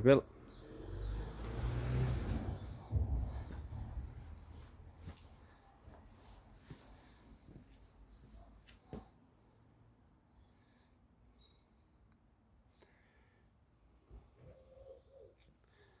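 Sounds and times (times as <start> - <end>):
soft bird chirps: 0.0 - 13.4, 14.1 - 16.0.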